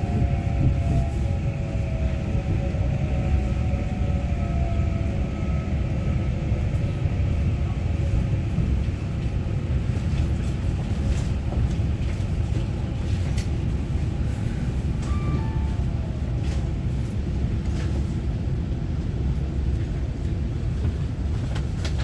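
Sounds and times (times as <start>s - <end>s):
train cabin rumble: 0.0s - 22.0s.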